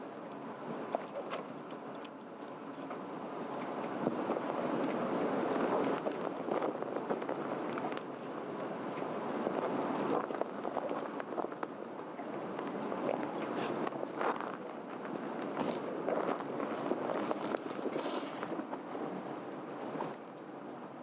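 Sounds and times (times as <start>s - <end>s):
fire crackling and popping: 4.0s - 21.0s.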